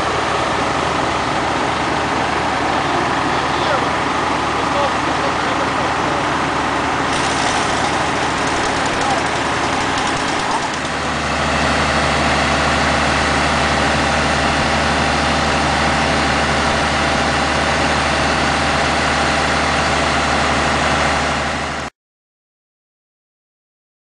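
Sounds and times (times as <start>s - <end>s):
diesel engine idling: 0.0s - 21.9s.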